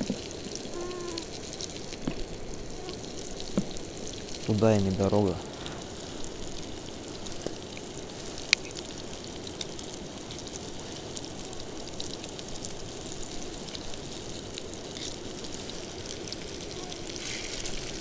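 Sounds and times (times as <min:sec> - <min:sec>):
fish sizzling in a frying pan: 0:00.0 - 0:18.0.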